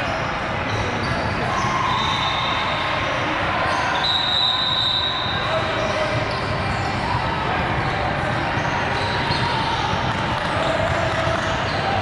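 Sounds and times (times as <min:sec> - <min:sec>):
chatter of many voices: 0:00.0 - 0:12.0.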